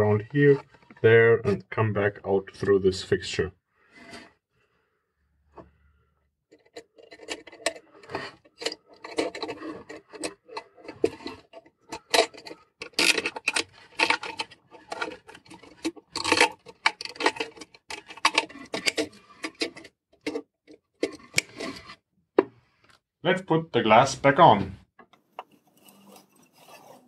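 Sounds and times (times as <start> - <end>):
clicks and scrapes of handling plastic: 0.0 - 2.8, 5.5 - 23.1, 25.0 - 27.0.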